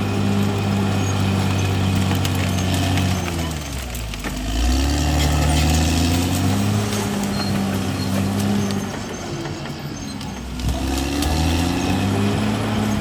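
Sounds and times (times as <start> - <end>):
bulldozer diesel engine: 0.0 - 13.0.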